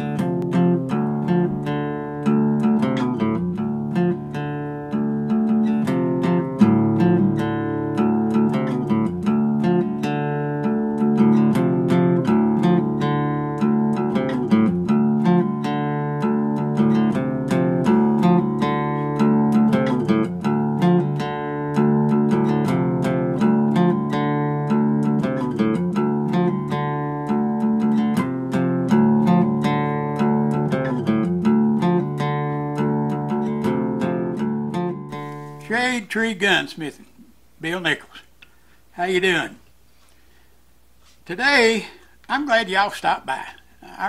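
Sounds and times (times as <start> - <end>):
acoustic guitar plucking: 0.0 - 40.4.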